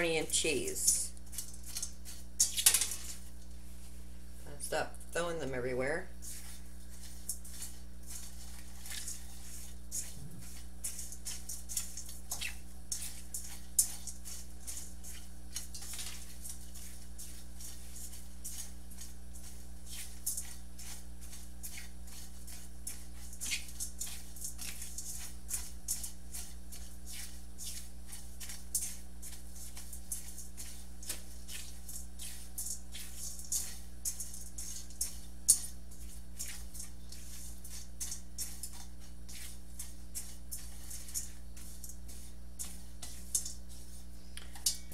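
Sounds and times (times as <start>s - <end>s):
spatula scraping breadcrumbs in skillet: 0.0s - 4.3s, 5.2s - 44.9s
steady low hum: 0.0s - 44.9s.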